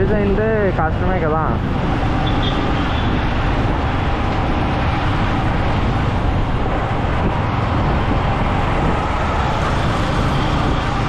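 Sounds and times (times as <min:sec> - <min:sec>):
motorcycle road noise: 0:00.0 - 0:11.0
wind rush on microphone: 0:00.0 - 0:11.0.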